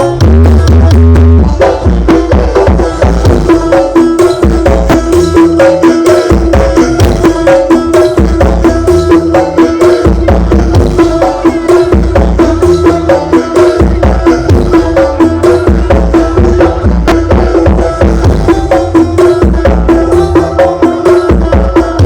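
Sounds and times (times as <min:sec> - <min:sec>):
fast drum beat: 0:00.0 - 0:22.0
heavy pulsing bass: 0:00.0 - 0:22.0
loud sound system music: 0:00.0 - 0:22.0.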